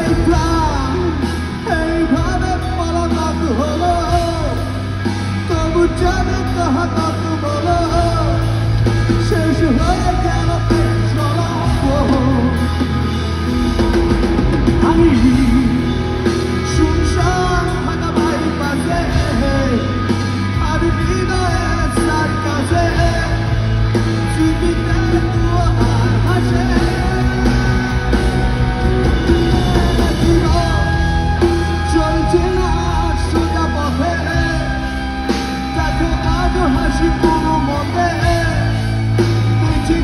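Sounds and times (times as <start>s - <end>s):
person singing: 0.0s - 13.1s, 14.7s - 40.0s
acoustic rock band playing: 0.0s - 40.0s.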